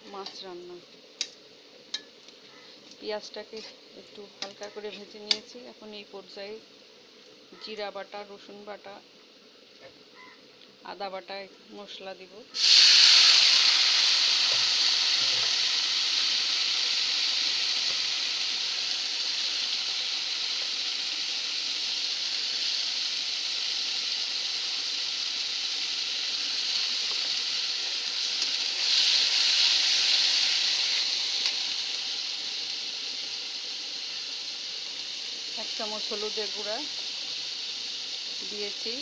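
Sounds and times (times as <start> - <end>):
spice paste sizzling in oil: 0.0 - 39.0.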